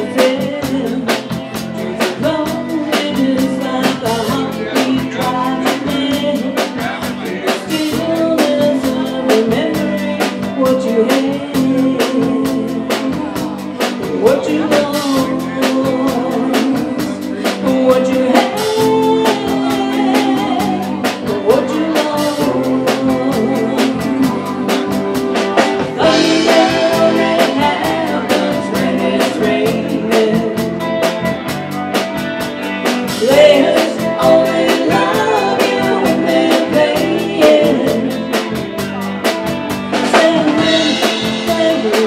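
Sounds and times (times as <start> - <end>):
woman singing: 0.0 - 31.4, 32.8 - 38.7, 39.9 - 42.0
drum kit beat: 0.0 - 42.0
electric guitars: 0.0 - 42.0.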